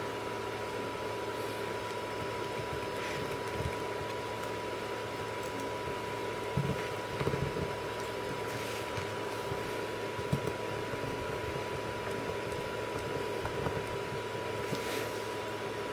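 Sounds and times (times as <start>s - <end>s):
background hum and hiss: 0.0s - 15.9s.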